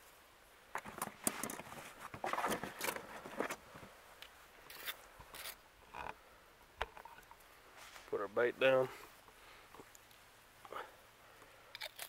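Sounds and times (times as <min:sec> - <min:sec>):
dry dirt and grass rustling: 0:00.0 - 0:12.0.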